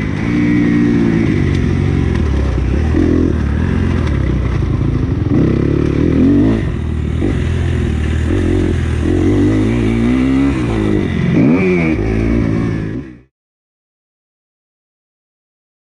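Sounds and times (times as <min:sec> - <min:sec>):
motocross bike engine revving: 0:00.0 - 0:13.3.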